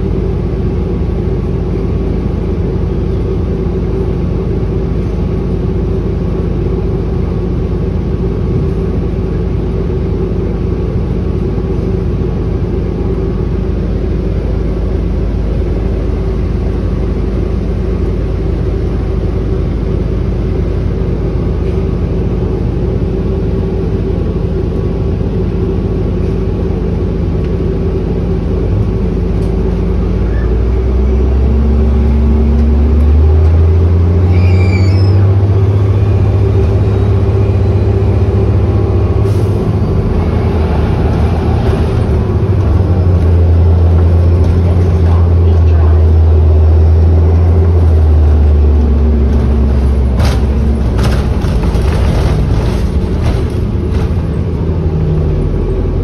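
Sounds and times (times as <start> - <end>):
bus interior rumble and hum: 0.0 - 56.0.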